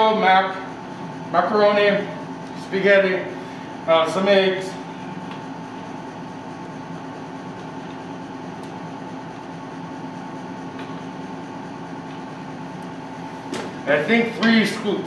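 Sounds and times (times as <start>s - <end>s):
ventilation fan hum: 0.0s - 15.0s.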